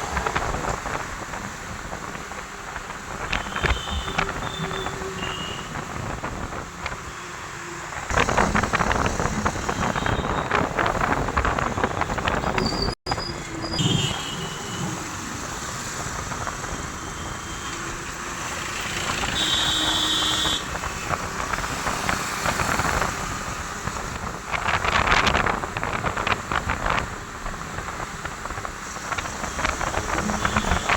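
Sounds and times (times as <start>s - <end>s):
road traffic rumble: 0.0s - 30.9s.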